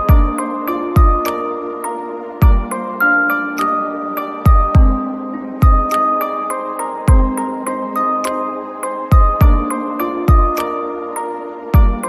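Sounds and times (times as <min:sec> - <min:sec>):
held keyboard notes: 0:00.0 - 0:12.0.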